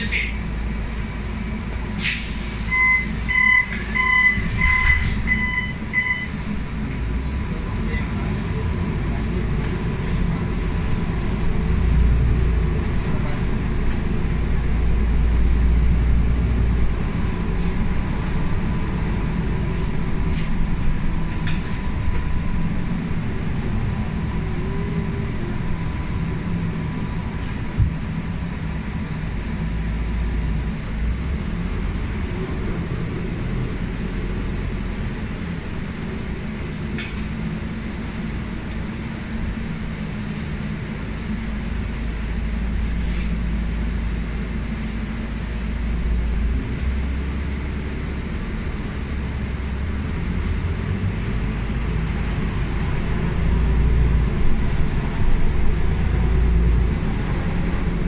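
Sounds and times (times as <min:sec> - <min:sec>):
bus engine and road drone: 0:00.0 - 0:58.0.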